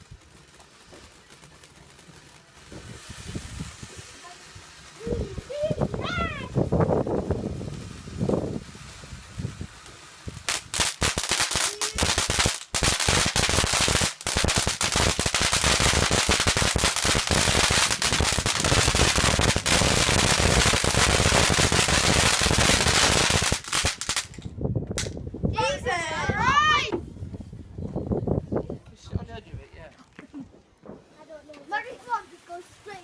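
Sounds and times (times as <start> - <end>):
fireworks cracking and banging: 0.0 - 25.2, 30.4 - 33.0.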